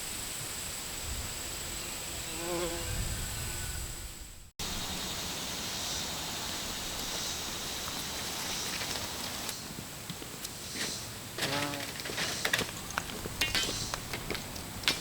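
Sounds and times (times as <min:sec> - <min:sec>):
insects droning: 0:00.0 - 0:14.9.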